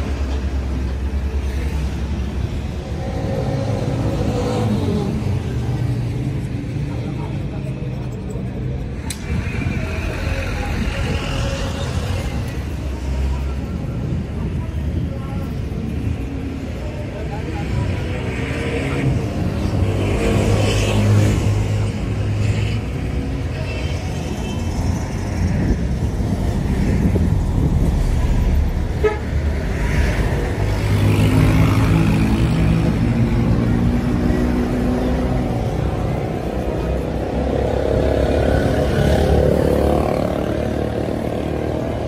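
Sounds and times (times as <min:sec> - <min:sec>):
traffic engines running: 0:00.0 - 0:42.0.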